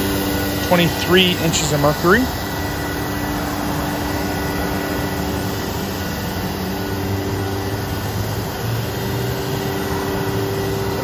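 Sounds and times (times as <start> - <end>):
vacuum pump running: 0.0 - 11.0.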